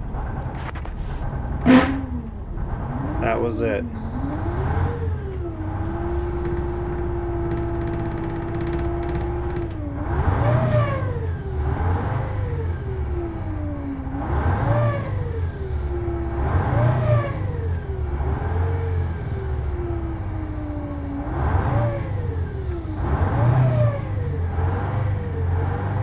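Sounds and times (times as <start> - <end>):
small engine surging: 1.5 - 26.0.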